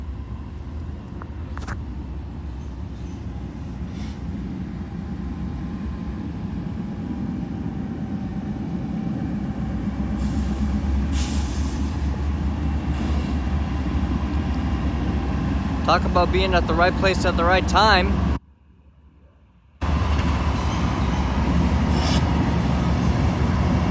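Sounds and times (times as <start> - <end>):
train rumbling: 0.0 - 18.4, 19.2 - 23.9.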